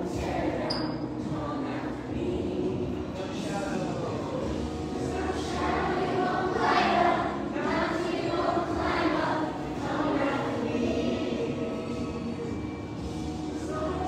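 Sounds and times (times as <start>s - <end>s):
children and adults singing together: 0.0s - 3.2s, 4.6s - 14.0s.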